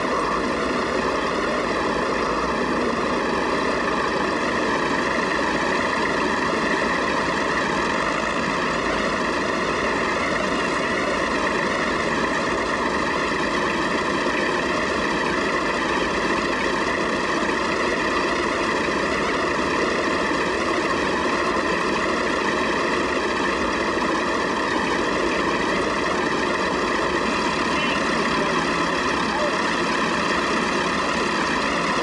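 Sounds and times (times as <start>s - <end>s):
tractor engines idling: 0.0s - 32.0s.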